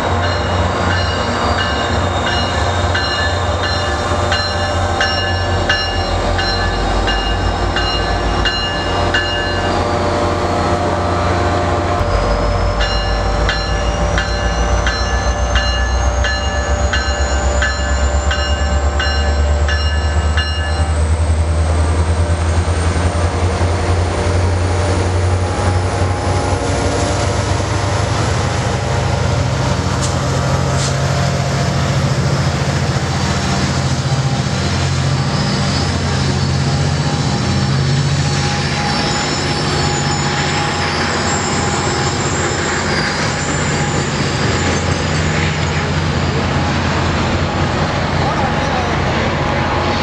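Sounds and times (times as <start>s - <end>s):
diesel locomotive engine drone: 0.0s - 50.0s
rail noise: 0.0s - 50.0s.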